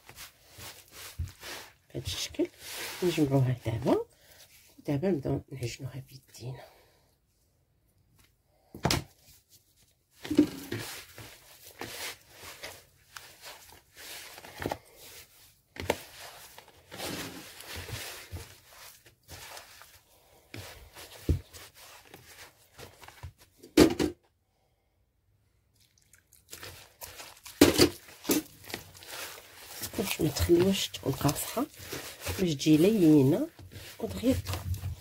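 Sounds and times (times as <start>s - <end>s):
hands kneading dough in bowl: 0.0s - 6.6s, 8.6s - 23.7s, 25.6s - 35.0s.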